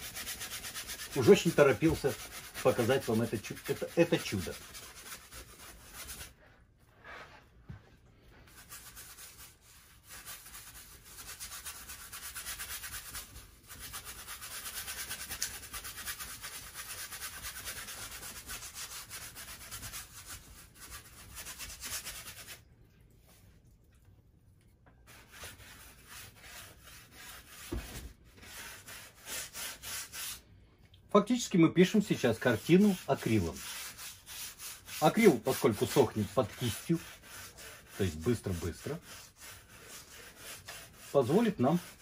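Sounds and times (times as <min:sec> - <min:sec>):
brush rasping on canvas: 0:00.0 - 0:07.3, 0:08.4 - 0:22.6, 0:25.0 - 0:30.4, 0:32.1 - 0:42.0.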